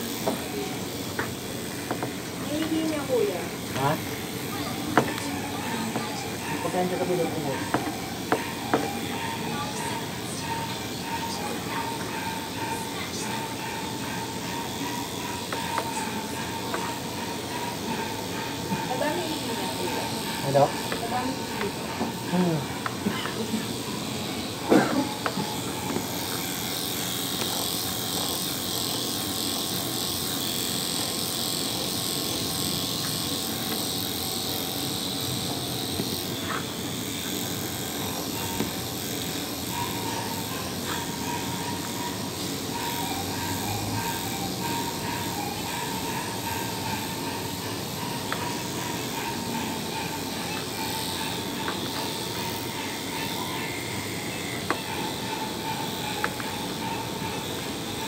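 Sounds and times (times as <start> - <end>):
electric clippers running: 0.0 - 58.0.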